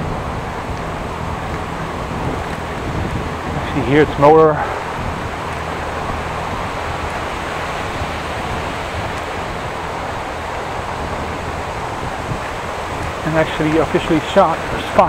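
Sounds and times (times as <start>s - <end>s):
bicycle wind and rolling noise: 0.0s - 15.0s.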